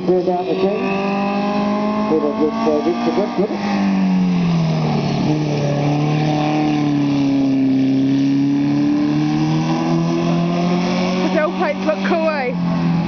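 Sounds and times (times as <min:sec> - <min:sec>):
racing car engine running: 0:00.0 - 0:13.0.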